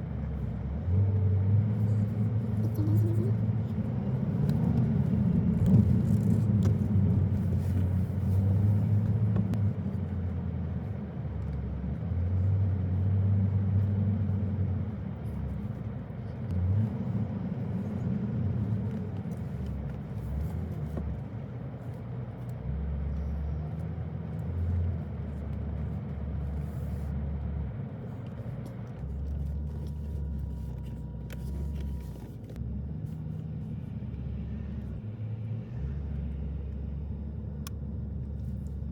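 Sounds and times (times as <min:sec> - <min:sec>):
car driving on a road: 0:00.0 - 0:38.9.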